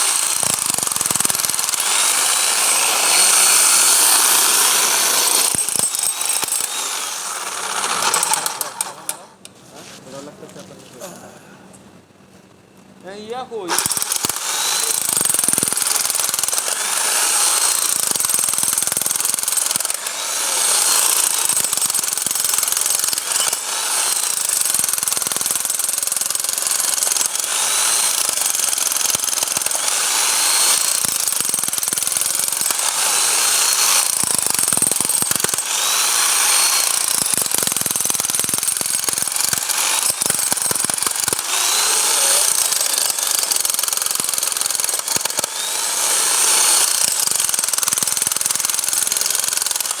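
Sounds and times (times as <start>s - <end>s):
hammer drill hammering: 0.0s - 9.5s, 13.7s - 50.0s.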